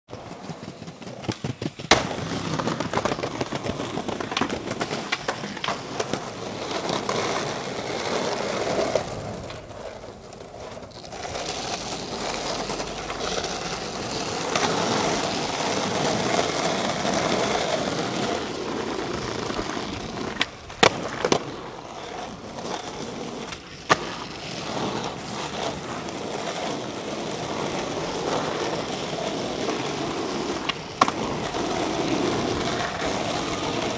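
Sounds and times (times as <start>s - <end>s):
skateboard clacks: 0.1s - 33.9s
skateboard wheels rolling on asphalt: 0.1s - 33.9s.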